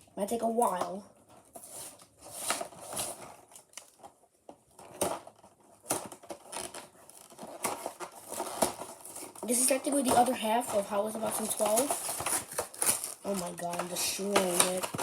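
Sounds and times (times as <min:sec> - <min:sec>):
packaging crinkling and clicking: 0:01.3 - 0:15.0.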